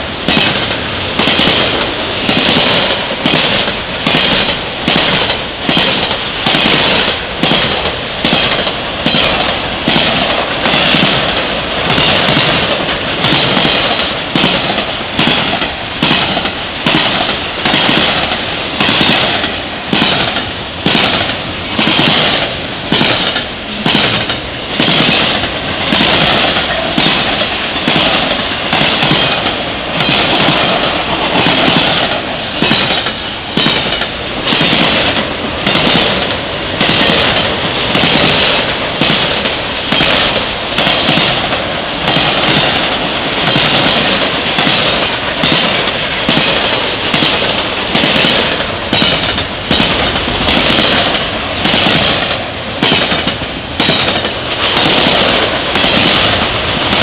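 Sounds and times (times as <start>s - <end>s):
rumble and hiss of freight cars: 0.0s - 57.0s
train wheels clacking on track: 0.0s - 57.0s.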